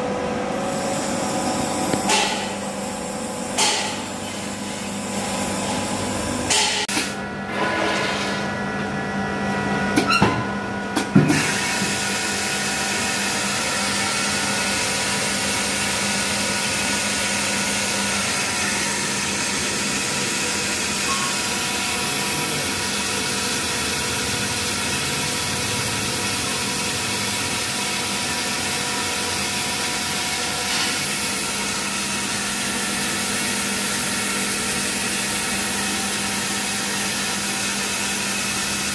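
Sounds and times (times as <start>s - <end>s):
constant machine hum: 0.0s - 38.9s.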